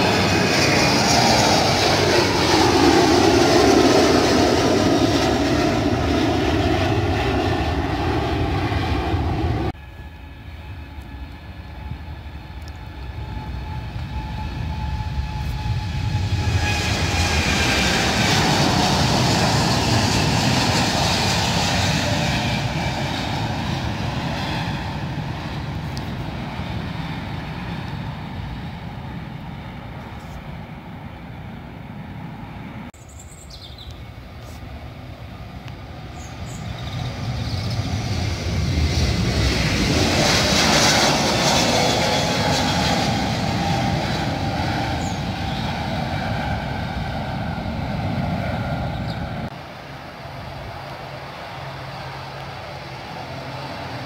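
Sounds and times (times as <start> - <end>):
jet engines roaring at takeoff: 0.0 - 54.0.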